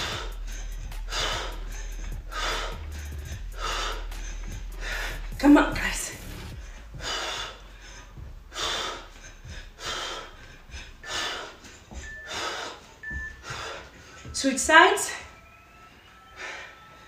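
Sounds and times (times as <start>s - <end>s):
woman breathing hard: 0.0s - 17.0s.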